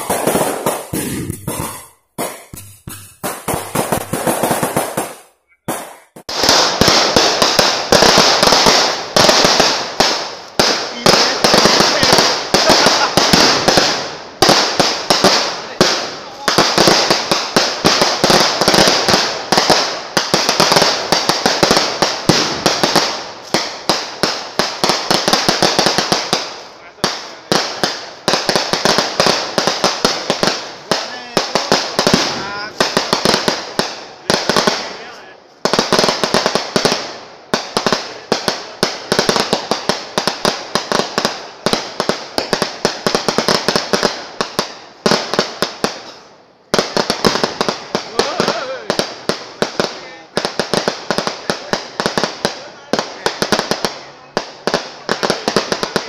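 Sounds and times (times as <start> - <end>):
firecrackers going off: 0.0 - 56.0.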